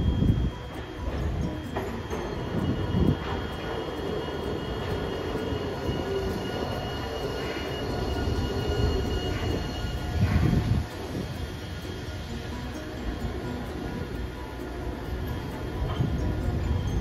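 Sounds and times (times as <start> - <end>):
thin steady whine: 0.0 - 17.0
tram wheels rumbling on rails: 0.0 - 17.0.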